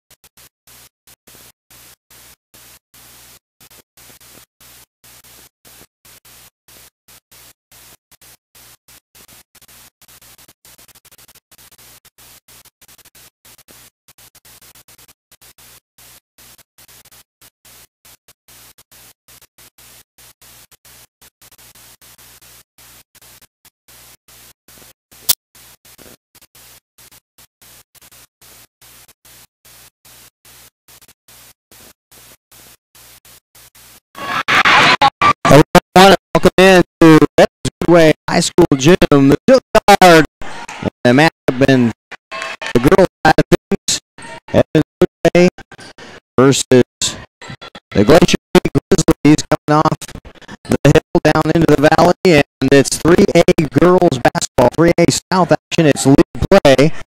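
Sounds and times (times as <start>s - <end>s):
stuttering static hiss: 0.1s - 57.0s.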